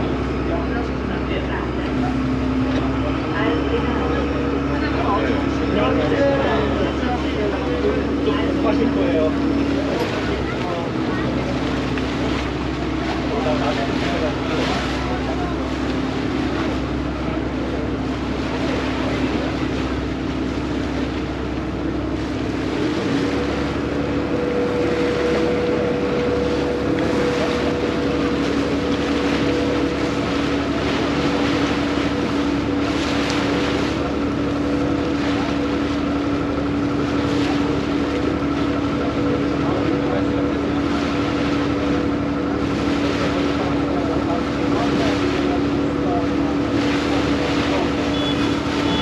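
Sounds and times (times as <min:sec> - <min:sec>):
boat diesel engine droning: 0:00.0 - 0:49.0
water rushing: 0:00.0 - 0:49.0
wind: 0:00.0 - 0:49.0.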